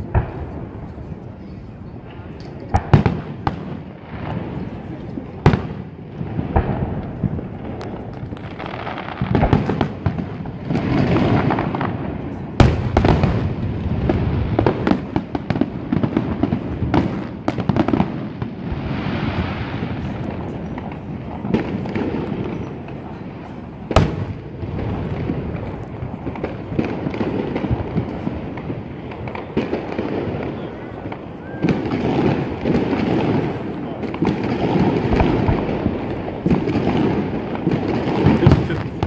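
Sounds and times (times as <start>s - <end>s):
sharp loud firework bangs: 0.0s - 1.0s, 2.1s - 23.2s, 23.8s - 39.0s
fireworks booming and crackling: 0.0s - 39.0s.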